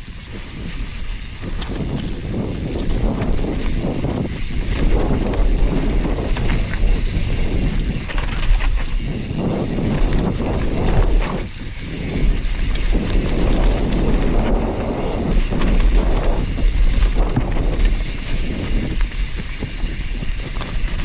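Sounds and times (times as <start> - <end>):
bike knocks and rattles: 0.0 - 21.0
bike tyres rolling over dirt: 0.0 - 21.0
wind buffeting microphone: 0.0 - 21.0.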